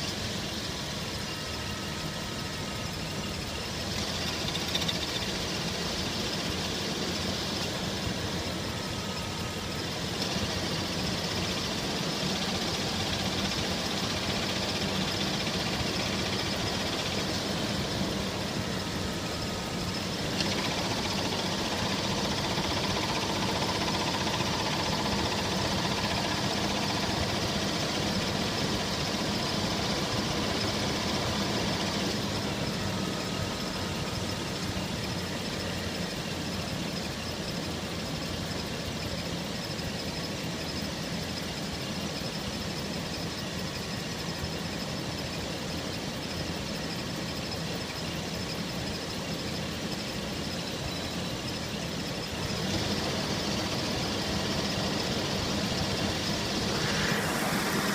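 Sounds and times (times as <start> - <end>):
engine running: 0.0 - 57.9
engine knocking: 2.6 - 57.9.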